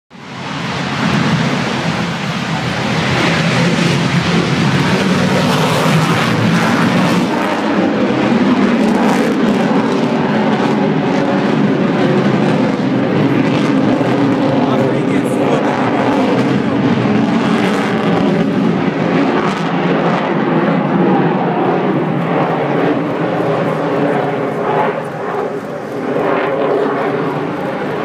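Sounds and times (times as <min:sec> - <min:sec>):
fighter jet engines roaring: 0:00.1 - 0:28.0.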